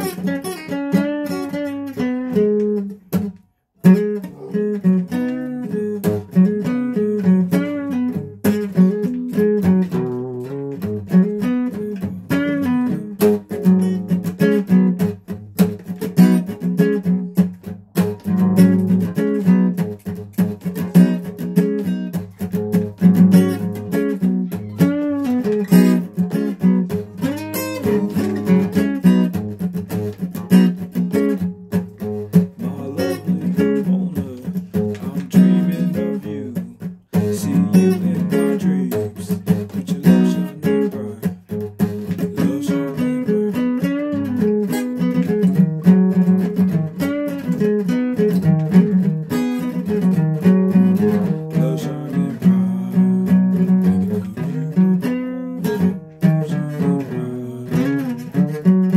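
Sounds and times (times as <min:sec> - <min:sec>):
guitar playing: 0:00.0 - 0:58.9.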